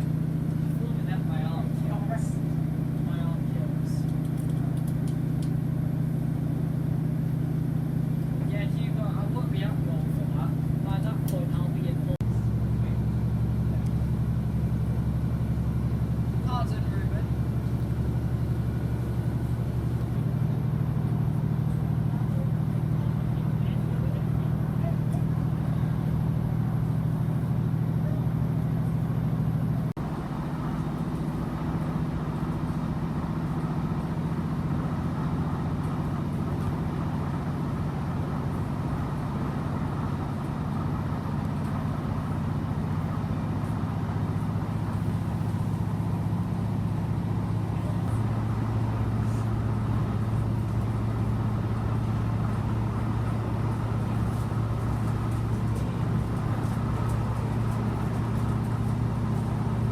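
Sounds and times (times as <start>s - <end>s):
diesel engine drone: 0.0s - 59.9s
train running noise: 0.0s - 59.9s.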